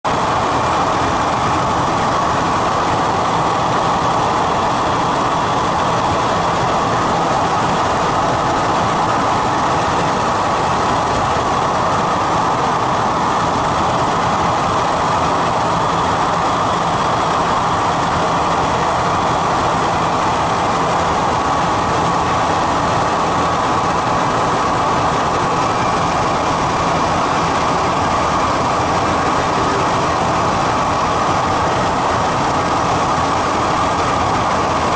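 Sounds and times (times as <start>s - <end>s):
propeller aircraft cockpit drone: 0.1s - 34.9s.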